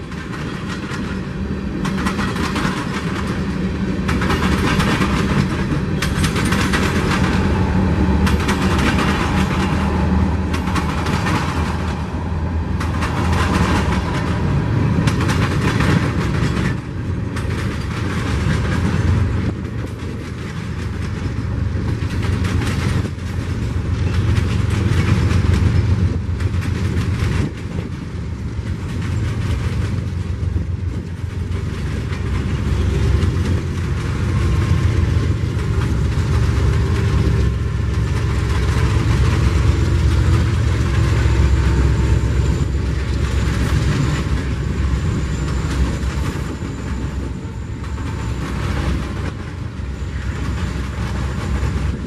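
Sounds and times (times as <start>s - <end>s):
freight train rumbling: 0.0s - 52.0s
wheels clattering over rail joints: 0.0s - 52.0s.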